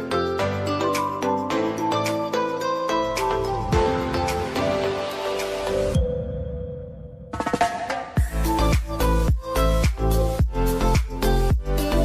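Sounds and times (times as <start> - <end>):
background music with sustained notes: 0.0 - 12.0.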